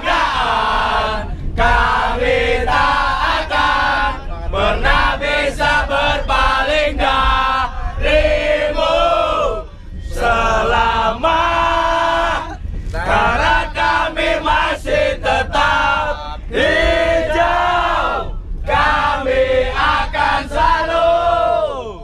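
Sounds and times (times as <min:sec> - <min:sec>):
crowd chanting: 0:00.0 - 0:22.0
steady low rumble: 0:00.0 - 0:22.0.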